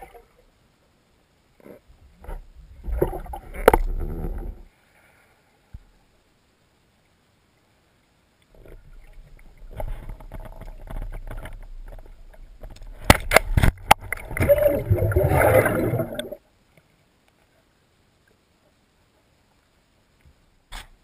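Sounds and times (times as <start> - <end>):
muffled underwater water movement: 1.5 - 6.2, 6.8 - 21.0.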